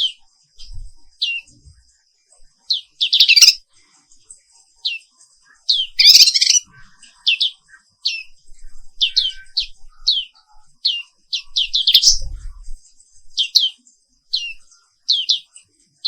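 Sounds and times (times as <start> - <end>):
rapid bird twittering: 0.0 - 1.7, 2.6 - 3.6, 4.8 - 15.6
bird chirping: 0.0 - 16.0.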